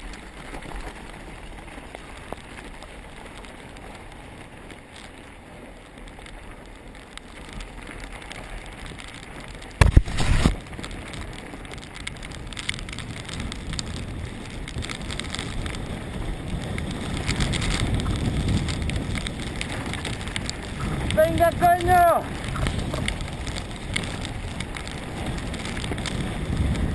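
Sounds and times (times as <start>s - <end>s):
tyre and wind rushing: 0.0s - 26.9s.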